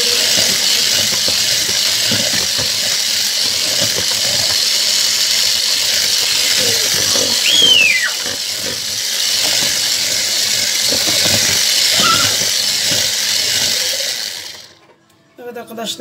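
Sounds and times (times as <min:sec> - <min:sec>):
electric hand mixer whisking batter: 0:00.0 - 0:14.8.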